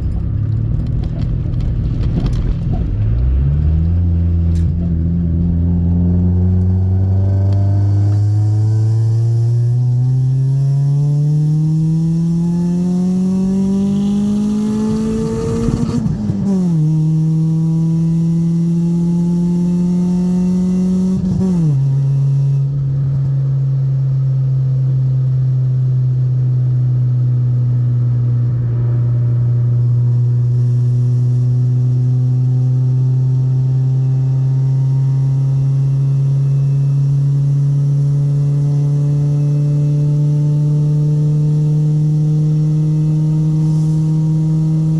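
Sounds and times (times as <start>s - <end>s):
car engine revving through gears: 0.0s - 24.2s, 24.8s - 44.9s.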